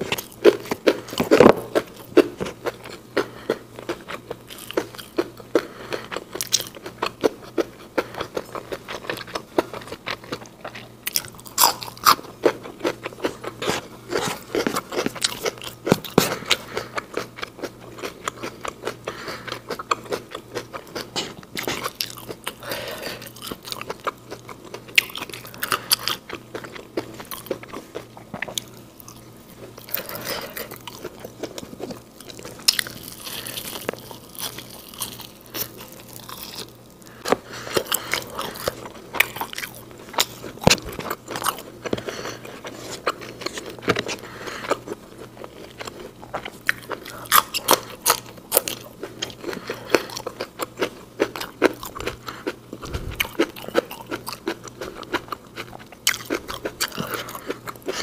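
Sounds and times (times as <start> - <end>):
crunching bites and chewing: 0.0 - 58.0.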